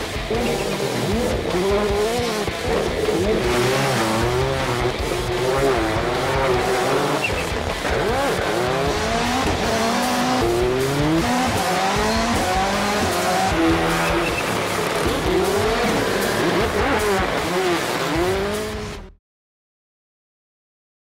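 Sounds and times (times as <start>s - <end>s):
race car engines revving: 0.0s - 19.2s.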